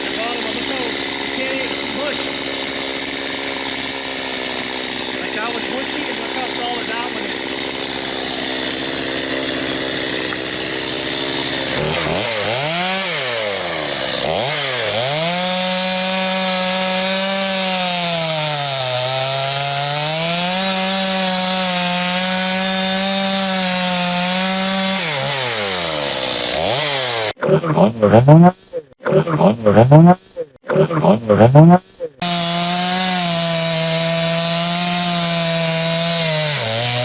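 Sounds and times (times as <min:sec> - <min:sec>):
chainsaw cutting log: 0:00.0 - 0:27.4, 0:29.9 - 0:37.0.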